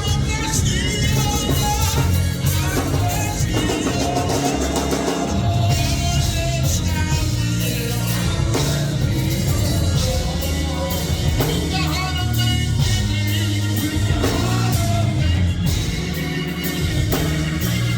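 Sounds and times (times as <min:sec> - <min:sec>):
bass: 0:00.0 - 0:17.9
drum kit: 0:00.0 - 0:17.9.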